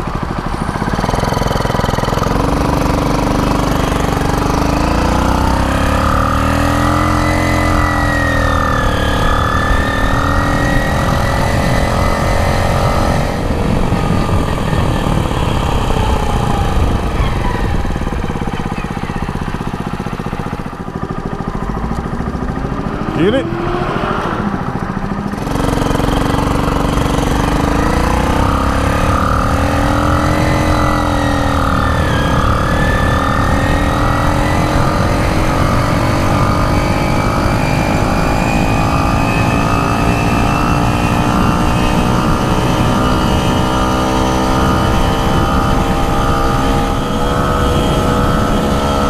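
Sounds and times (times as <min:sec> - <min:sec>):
small motorbike engine running: 0:00.0 - 0:49.0.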